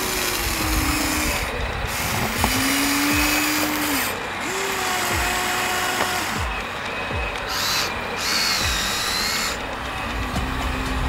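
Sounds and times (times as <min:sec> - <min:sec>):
steady buzz: 0:00.0 - 0:11.0
toy electric motors whining: 0:00.0 - 0:11.0.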